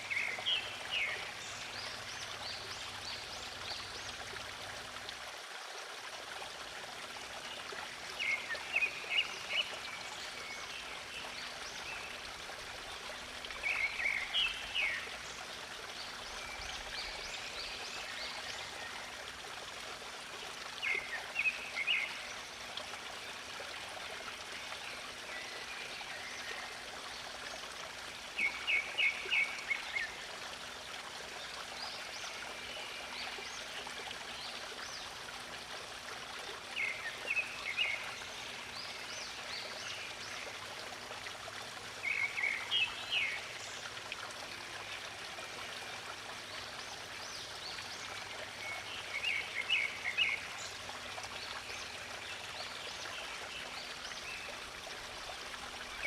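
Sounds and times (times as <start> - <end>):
running water stream: 0.0 - 56.0.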